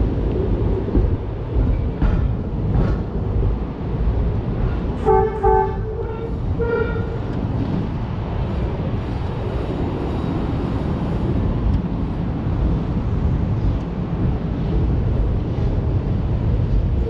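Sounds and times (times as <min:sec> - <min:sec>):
streetcar wheels rumbling: 0:00.0 - 0:17.0.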